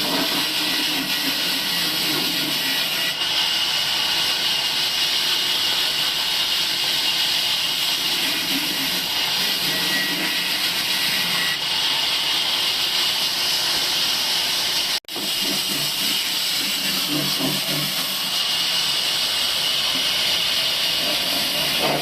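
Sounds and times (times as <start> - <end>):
sawmill machine hissing: 0.0 - 22.0.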